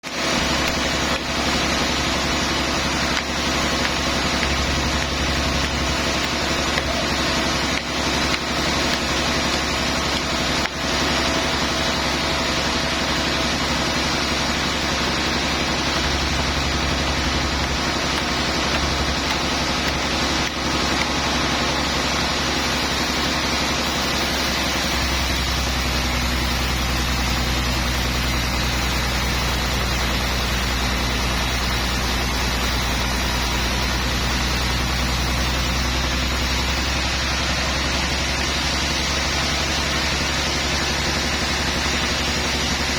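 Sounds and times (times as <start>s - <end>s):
sawmill machinery humming: 0.0s - 42.9s.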